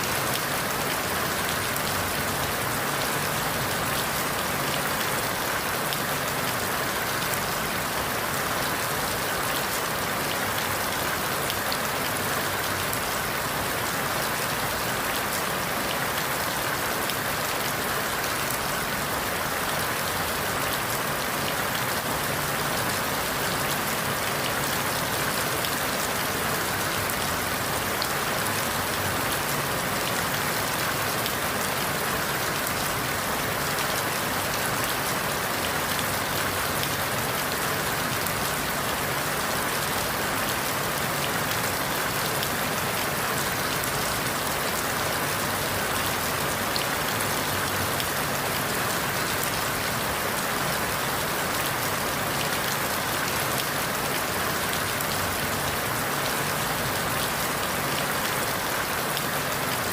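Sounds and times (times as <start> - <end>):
rain falling through leaves: 0.0 - 59.9.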